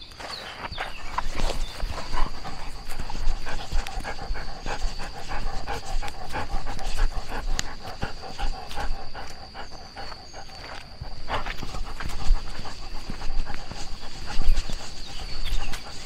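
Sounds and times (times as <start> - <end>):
dog panting: 0.7 - 16.0.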